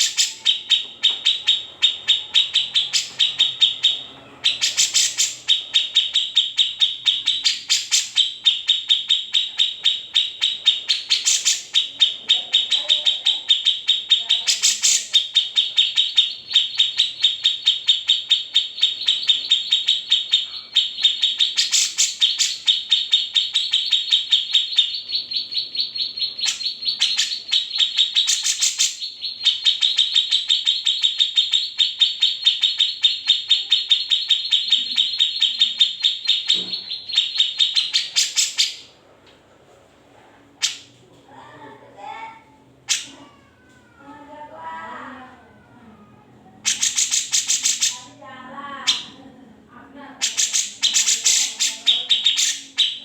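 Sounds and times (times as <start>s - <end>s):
bird singing fast trill: 0.0s - 38.9s, 46.6s - 48.2s, 50.2s - 53.0s.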